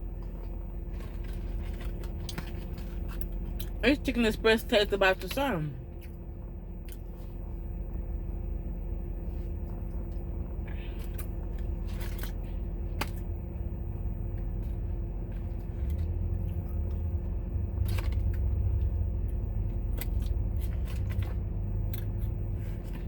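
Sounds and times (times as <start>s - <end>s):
clicks and crunches of eating: 0.0s - 3.8s, 5.9s - 8.0s, 9.4s - 13.6s, 14.3s - 23.0s
low rumble and hum: 0.0s - 23.0s.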